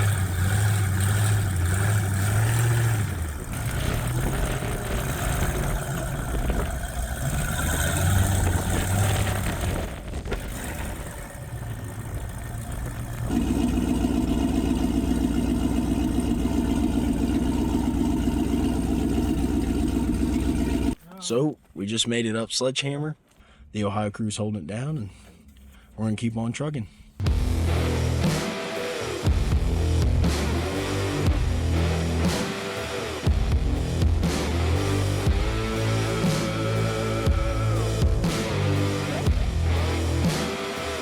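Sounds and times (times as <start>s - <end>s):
engine revving under load: 0.0s - 21.0s, 27.2s - 41.0s.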